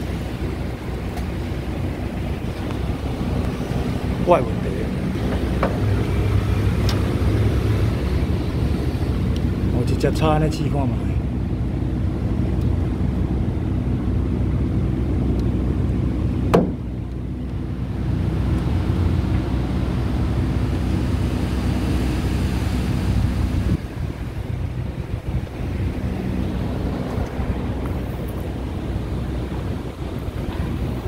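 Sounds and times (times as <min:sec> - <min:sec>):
low mechanical rumble: 0:00.0 - 0:31.0.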